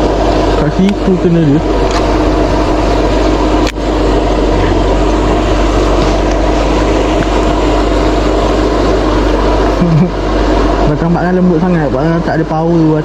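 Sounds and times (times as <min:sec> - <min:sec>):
loud machine drone: 0:00.0 - 0:13.0.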